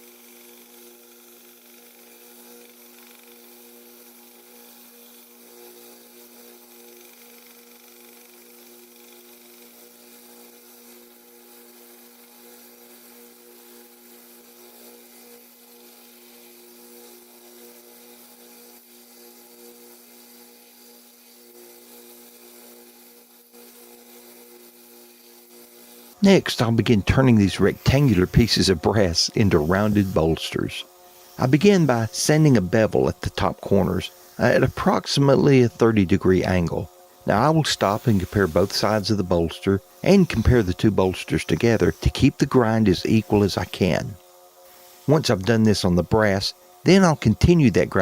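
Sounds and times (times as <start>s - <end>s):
electric power tool motor running: 0.0s - 48.0s.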